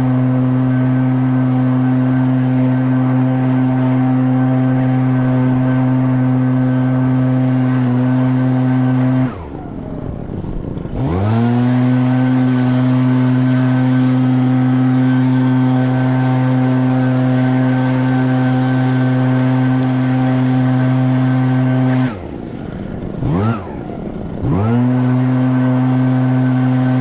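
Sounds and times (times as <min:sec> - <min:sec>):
leaf blower engine revving: 0:00.0 - 0:27.0.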